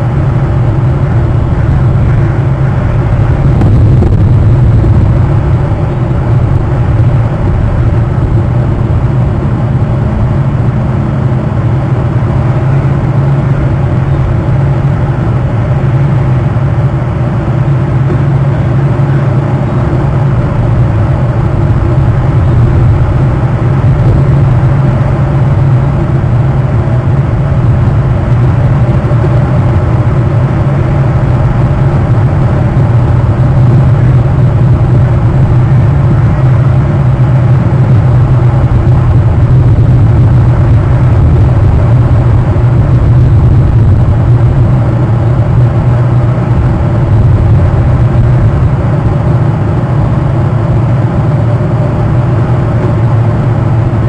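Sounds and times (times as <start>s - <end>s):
loud low rumble: 0.0s - 54.0s.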